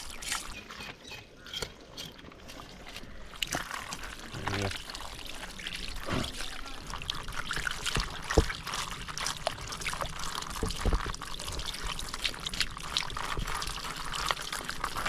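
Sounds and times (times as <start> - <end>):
water pouring and splashing: 0.0 - 1.0, 1.8 - 15.0.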